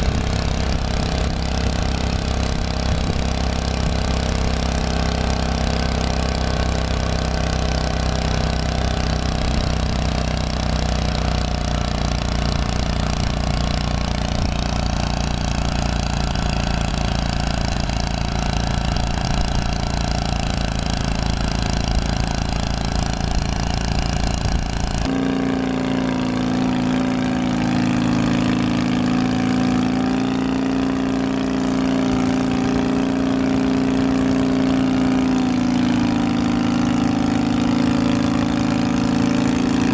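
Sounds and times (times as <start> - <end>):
higher-pitched engine running: 0.0 - 39.9
walk-behind tractor engine running: 0.0 - 39.9.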